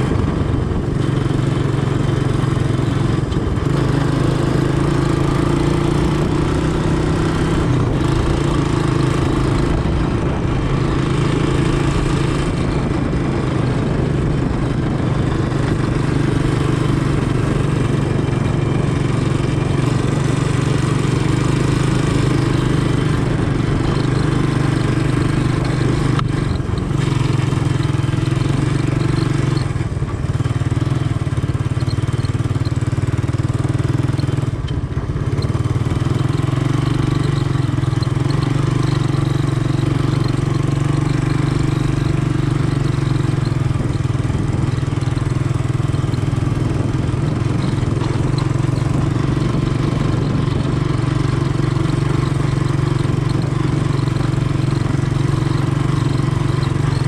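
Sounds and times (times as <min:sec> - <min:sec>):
four-stroke engine running: 0:00.0 - 0:57.0.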